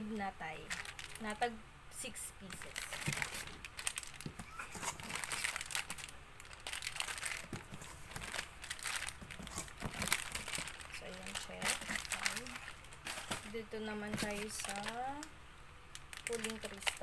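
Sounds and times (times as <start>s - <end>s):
packaging crinkling: 0.6s - 1.4s, 2.4s - 15.3s, 15.9s - 17.0s.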